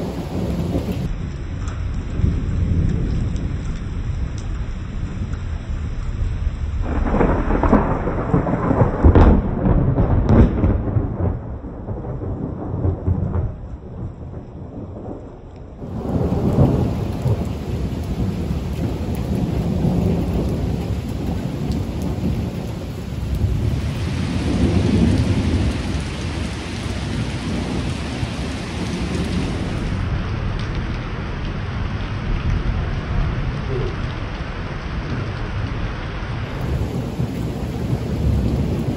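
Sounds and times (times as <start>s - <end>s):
steady rain: 0.0s - 38.9s
thunder rolling and cracking: 0.0s - 38.9s.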